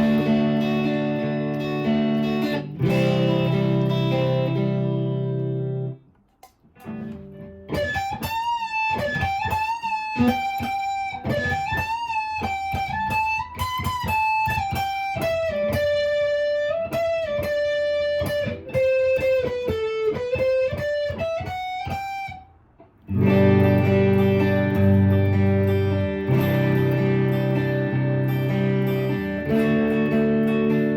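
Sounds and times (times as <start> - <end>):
clean electric guitar: 0.0 - 30.9.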